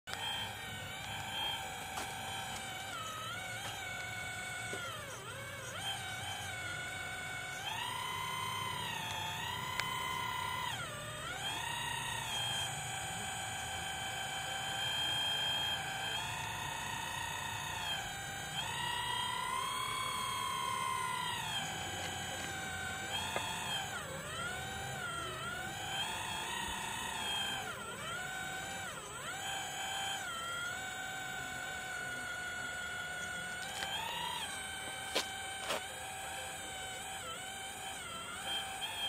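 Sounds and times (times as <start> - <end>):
hydraulic pump whining: 0.0 - 39.0.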